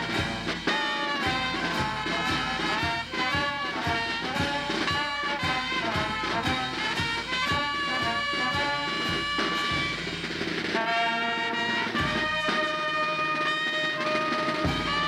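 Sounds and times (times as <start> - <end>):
bass drum and snare beat: 0.0 - 15.0
sousaphones and trumpets: 0.0 - 15.0.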